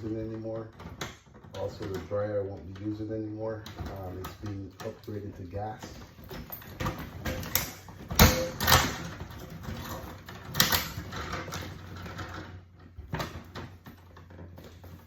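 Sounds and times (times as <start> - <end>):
clicks and clatter in electrical panel: 0.0 - 15.0.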